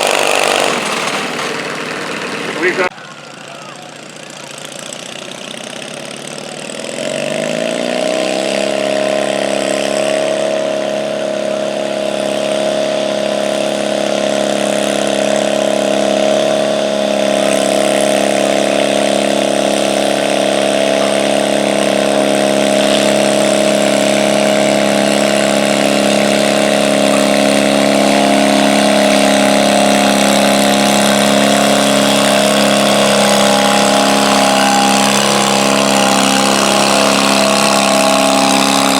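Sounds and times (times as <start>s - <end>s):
tractor engine revving: 0.0s - 38.9s.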